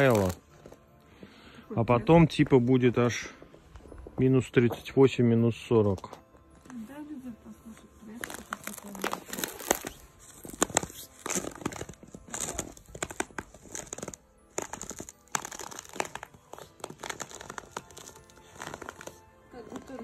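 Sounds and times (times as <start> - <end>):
footsteps crunching in snow: 0.0 - 5.0, 5.7 - 20.0.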